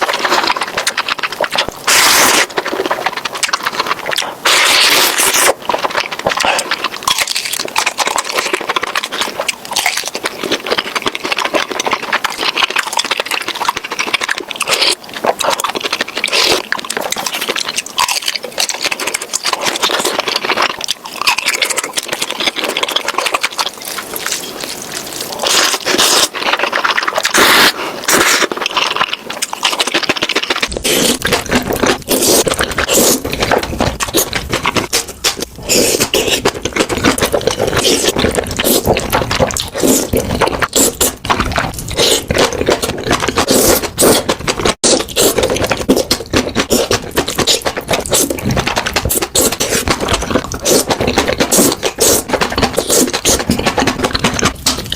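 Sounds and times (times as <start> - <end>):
noodles slurped and chewed: 0.0 - 54.9.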